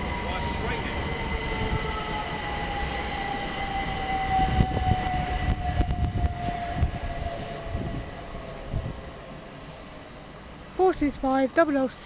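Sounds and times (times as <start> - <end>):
electric train motors whining: 0.0 - 11.4.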